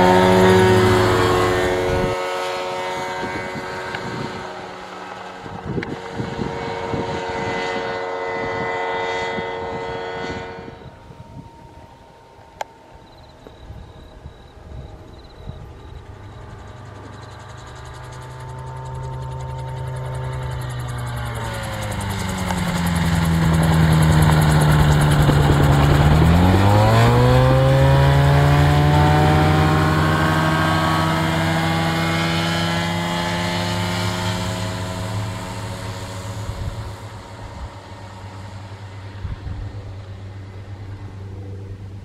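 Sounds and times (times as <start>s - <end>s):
gyroplane engine and propeller: 0.0s - 42.0s.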